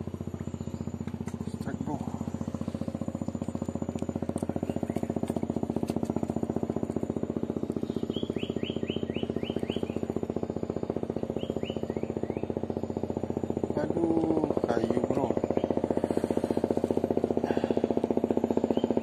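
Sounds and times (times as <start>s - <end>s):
bird chirping: 0.0s - 6.1s, 7.2s - 17.0s, 18.5s - 19.0s
small engine running: 0.0s - 19.0s.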